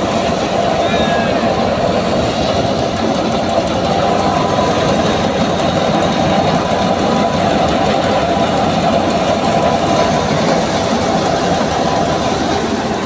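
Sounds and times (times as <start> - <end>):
thresher machine running: 0.0 - 13.0
tractor engine running: 0.0 - 13.0.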